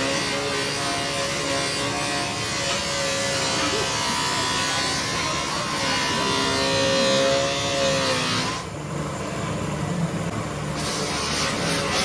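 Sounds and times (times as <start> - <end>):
motor running with pitched hum: 0.0 - 12.0.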